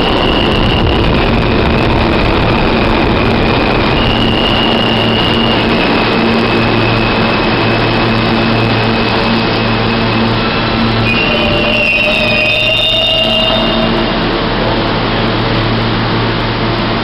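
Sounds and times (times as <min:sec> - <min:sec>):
high-pitched whine: 0:00.0 - 0:17.0
low motor hum: 0:00.0 - 0:17.0
subway train rumbling on rails: 0:00.0 - 0:17.0.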